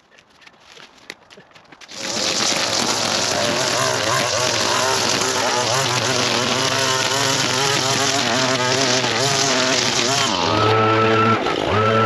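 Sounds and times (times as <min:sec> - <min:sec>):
string trimmer engine revving: 0:01.9 - 0:12.0.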